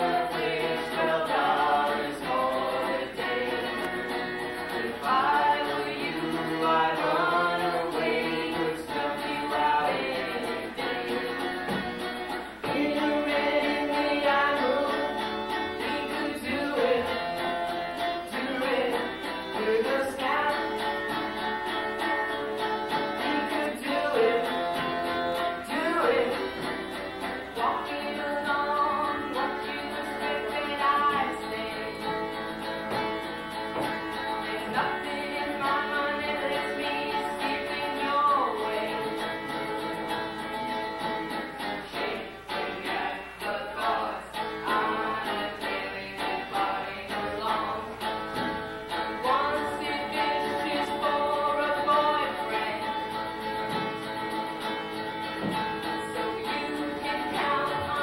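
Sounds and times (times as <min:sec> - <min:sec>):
person singing: 0:00.0 - 0:11.8, 0:12.5 - 0:33.1, 0:33.8 - 0:40.1, 0:41.0 - 0:58.0.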